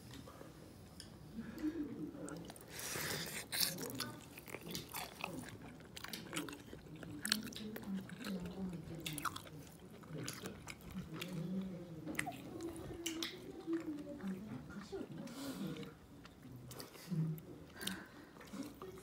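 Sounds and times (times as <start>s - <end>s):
faint background voices: 0.0s - 19.0s
wet chewing and mouth clicks: 2.2s - 19.0s.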